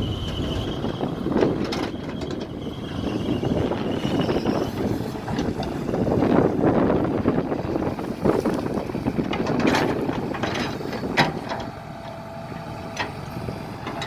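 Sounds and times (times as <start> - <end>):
mini excavator engine running: 0.0 - 14.0.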